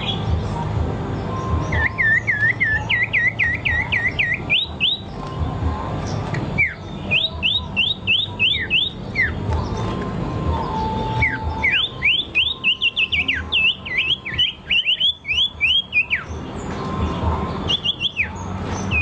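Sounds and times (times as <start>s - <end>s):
songbird whistling rising notes: 1.2s - 5.4s, 6.0s - 19.0s.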